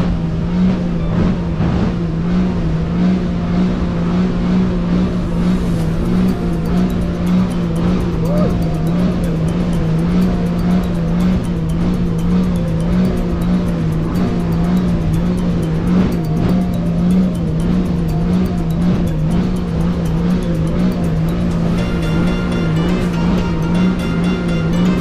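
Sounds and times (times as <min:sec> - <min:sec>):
jet ski engine droning: 0:00.0 - 0:25.0
rushing water noise: 0:04.0 - 0:25.0.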